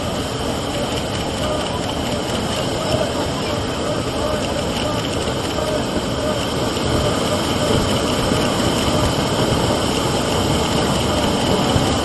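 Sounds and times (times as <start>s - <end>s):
firework fountain hissing: 0.0s - 12.0s.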